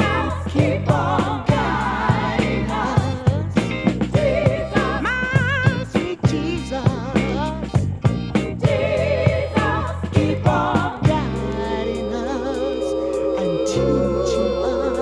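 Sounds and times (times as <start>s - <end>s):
soul funk music with singing: 0.0s - 15.0s.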